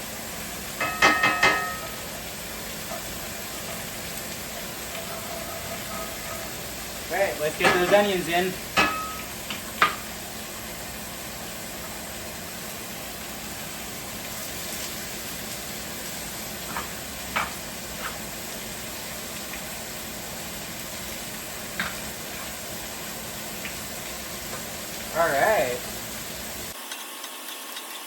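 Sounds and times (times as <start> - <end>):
onions sizzling in a pan: 0.0 - 28.0.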